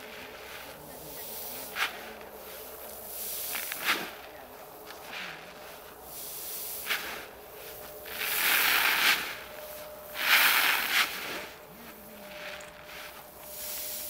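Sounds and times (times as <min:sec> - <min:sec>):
shovel scraping: 0:00.0 - 0:04.2, 0:04.9 - 0:14.0
falling grain hissing: 0:00.1 - 0:14.0.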